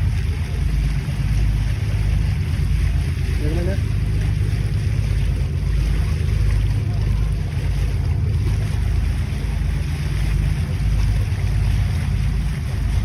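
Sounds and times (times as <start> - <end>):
ferry engine drone: 0.0 - 13.0
water rushing: 0.0 - 13.0
wind: 0.0 - 13.0.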